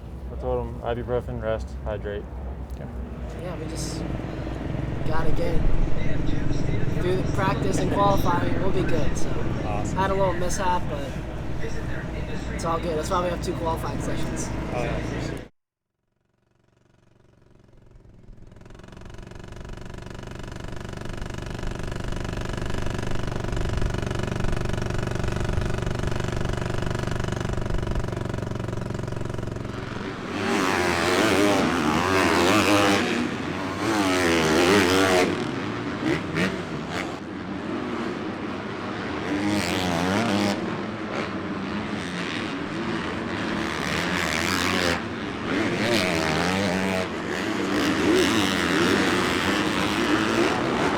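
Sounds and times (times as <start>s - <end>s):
dirt bike engine drone: 0.0s - 15.5s, 16.2s - 50.9s
dirt bike engines revving: 0.0s - 15.5s, 17.2s - 50.9s.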